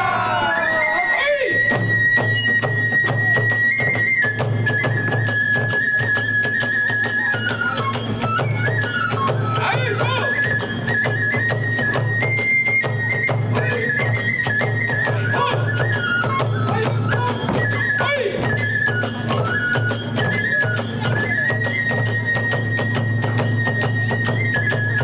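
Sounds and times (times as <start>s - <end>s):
bamboo flute melody: 0.0s - 25.0s
drum and hand-cymbal beats: 0.0s - 25.0s.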